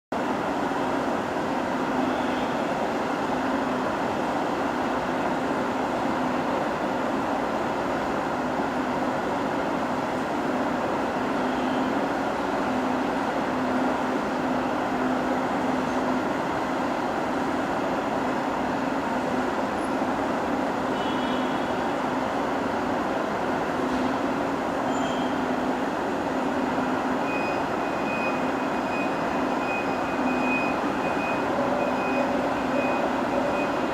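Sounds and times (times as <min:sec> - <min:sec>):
train wheels rumbling on rail: 0:00.2 - 0:33.9.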